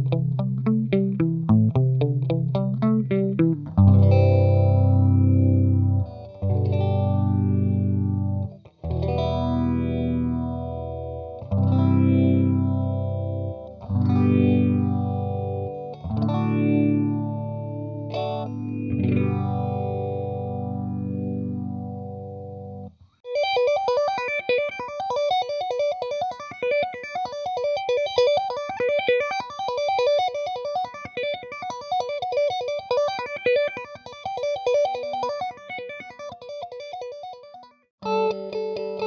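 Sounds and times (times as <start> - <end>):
electric guitar with phaser: 0.0 - 39.0.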